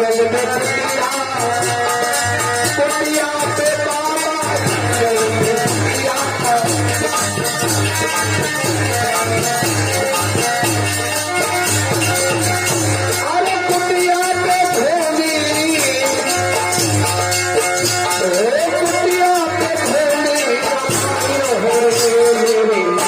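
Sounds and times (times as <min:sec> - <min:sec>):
folk music with pulsing beat: 0:00.0 - 0:23.0.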